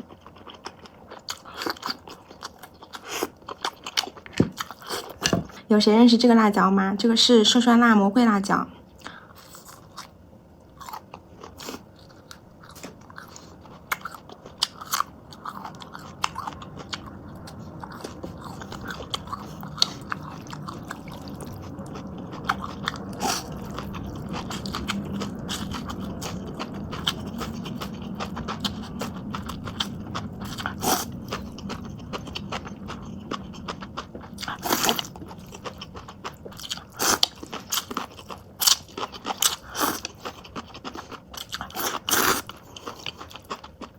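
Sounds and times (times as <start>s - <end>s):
crunchy chewing of a pepper: 0.0s - 5.6s, 9.0s - 43.9s
low steady hum: 0.0s - 43.9s.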